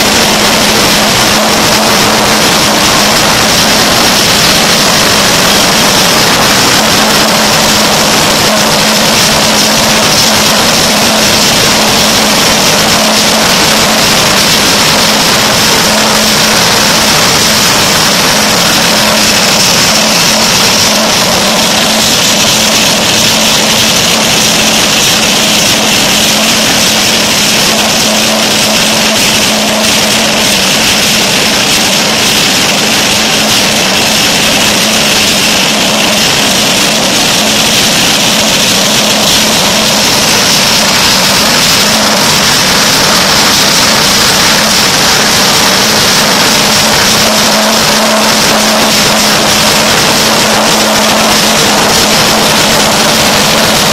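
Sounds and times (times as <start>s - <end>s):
machine drone: 0.0s - 53.9s.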